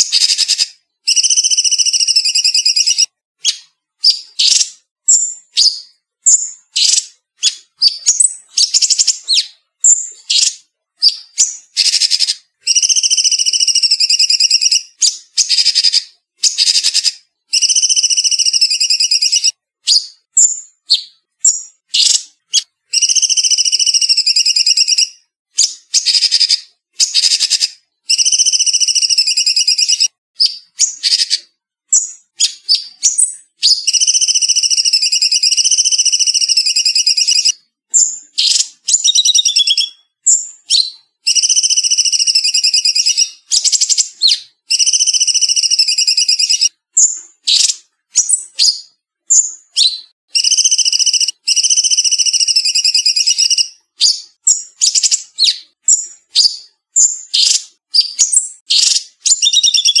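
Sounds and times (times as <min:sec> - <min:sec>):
songbird rattling trills and chirps: 0:00.0 - 1:00.0.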